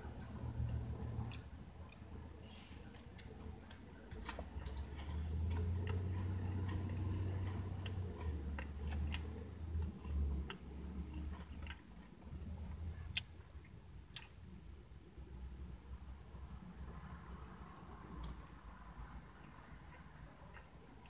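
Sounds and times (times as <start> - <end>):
mouth chewing soft cake: 0.0 - 21.0.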